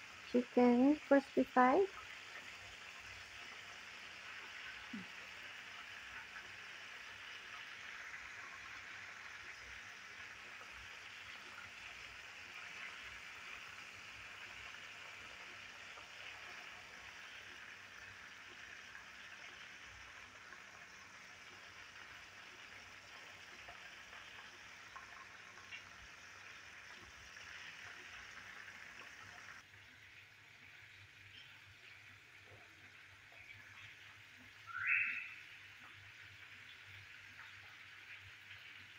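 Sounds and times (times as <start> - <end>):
oil sizzling and popping: 0.0 - 38.9.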